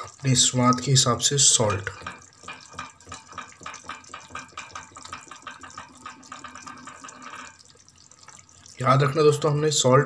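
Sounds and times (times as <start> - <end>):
chicken simmering in a pan: 0.0 - 10.0.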